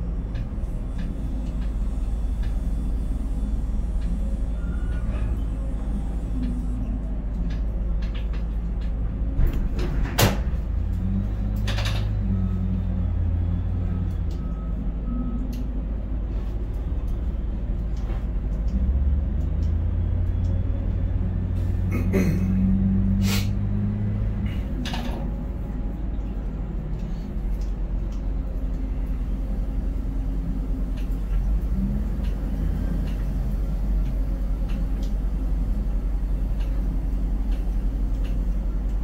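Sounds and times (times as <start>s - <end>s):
crane hoist drives droning: 0.0s - 39.0s.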